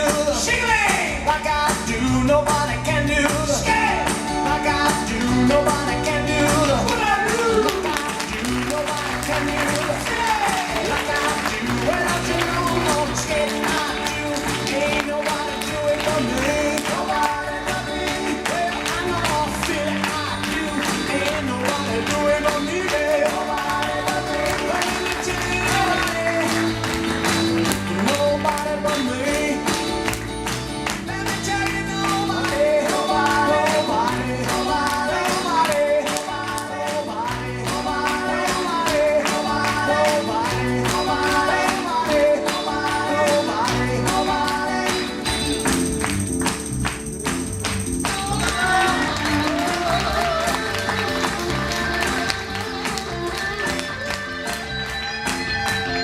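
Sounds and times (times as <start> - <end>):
upbeat rock and roll song: 0.0 - 56.0.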